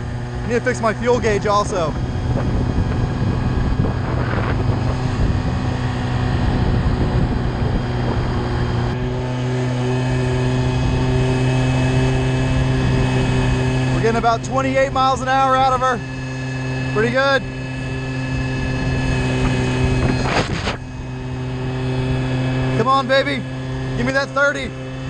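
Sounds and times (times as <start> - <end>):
scooter engine running steadily: 0.0 - 25.0.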